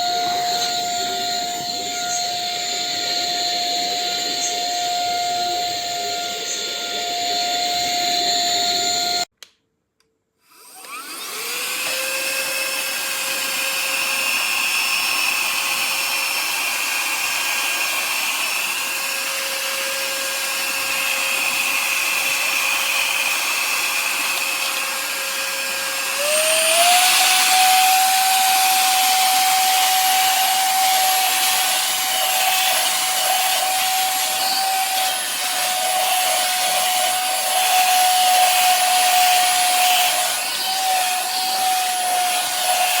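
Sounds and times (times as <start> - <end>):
handheld vacuum motor whining: 0.0 - 9.3, 10.4 - 43.0.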